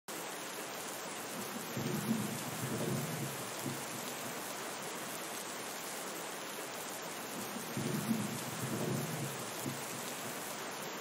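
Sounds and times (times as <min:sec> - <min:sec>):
steady rain: 0:00.1 - 0:11.0.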